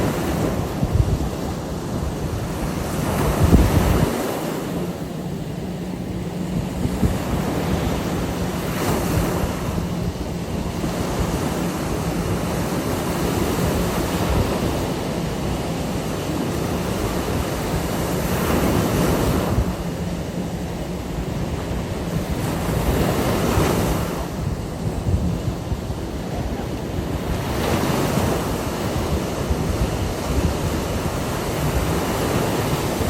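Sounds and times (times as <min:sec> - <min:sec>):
ocean surf breaking on beach: 0:00.0 - 0:33.0
wind buffeting microphone: 0:00.0 - 0:33.0.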